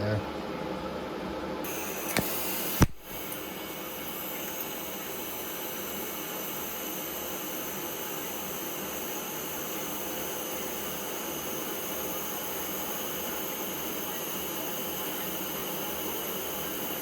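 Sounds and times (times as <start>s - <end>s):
steady machine hiss: 1.6s - 17.0s.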